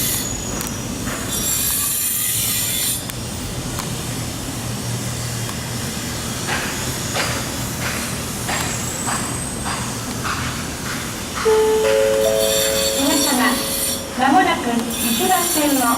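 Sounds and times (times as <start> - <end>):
train wheels clicking on rail joints: 0.0 - 4.2, 5.3 - 15.9
electric train rumbling: 0.0 - 15.9.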